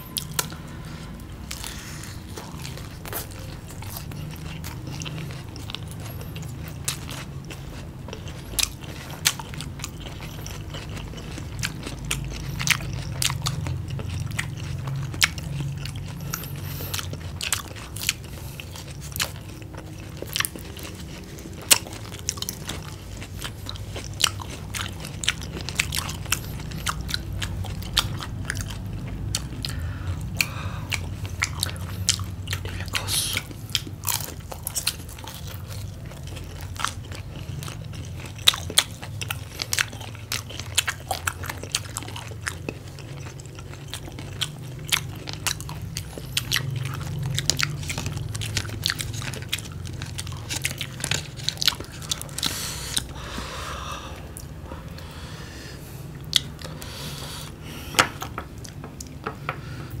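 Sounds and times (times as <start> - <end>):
crunching fried food: 0.0 - 60.0
low steady hum: 0.0 - 60.0.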